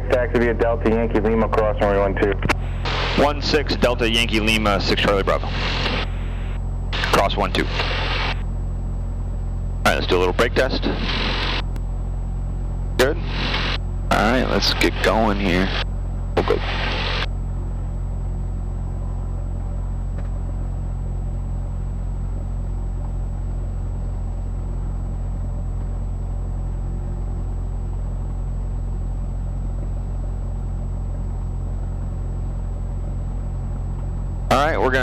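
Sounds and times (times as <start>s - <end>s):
airplane engine droning: 0.0s - 35.0s.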